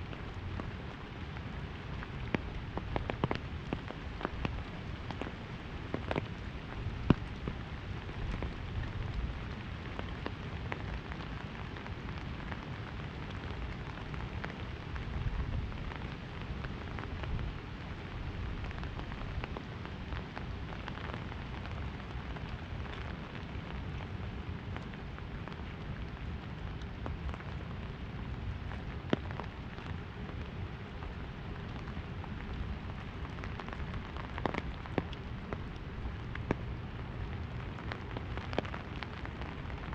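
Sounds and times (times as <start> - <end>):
rain falling on an umbrella: 0.0 - 39.9.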